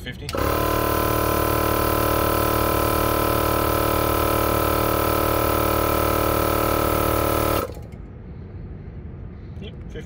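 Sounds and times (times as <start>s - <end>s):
air compressor humming: 0.0s - 8.7s.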